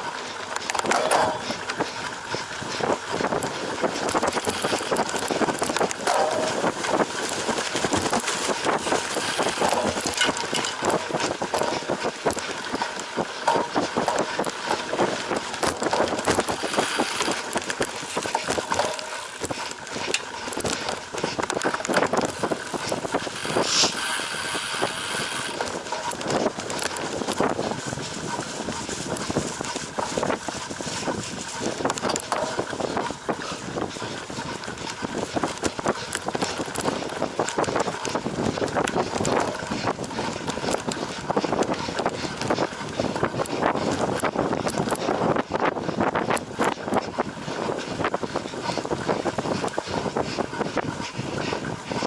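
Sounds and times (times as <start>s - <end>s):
bike chain and frame rattling: 0.0s - 52.0s
tyre noise: 0.0s - 52.0s
wind on microphone: 0.8s - 52.0s.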